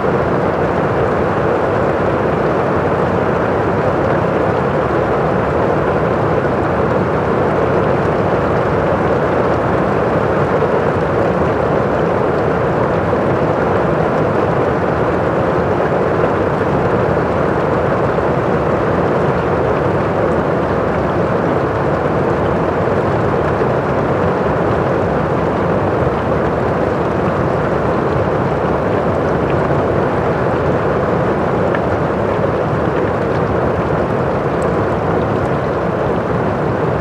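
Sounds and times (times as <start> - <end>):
muffled heavy rain on a roof: 0.0 - 37.0.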